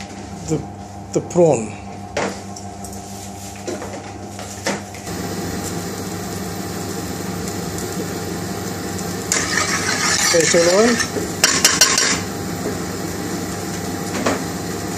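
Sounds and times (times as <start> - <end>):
kitchen mechanical hum: 0.0 - 14.9.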